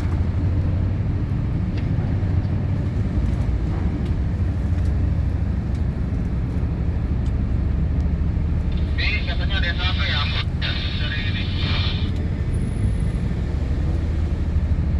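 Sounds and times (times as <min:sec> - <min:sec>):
low engine rumble: 0:00.0 - 0:14.9.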